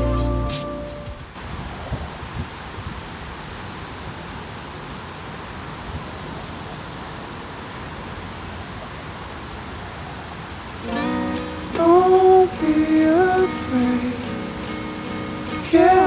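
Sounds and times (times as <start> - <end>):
leaves rustling in wind: 0.0 - 16.0.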